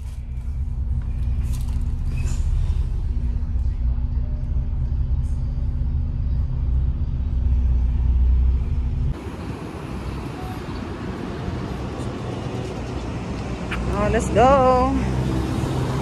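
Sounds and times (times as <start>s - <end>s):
bus engine rumbling: 0.0s - 16.0s
street traffic noise: 0.0s - 16.0s.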